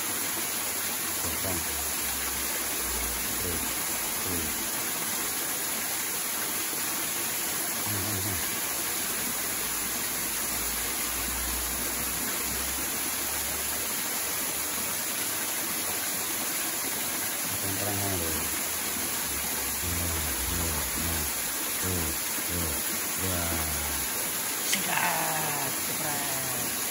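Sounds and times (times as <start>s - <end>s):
water splashing from cascade: 0.0s - 26.9s.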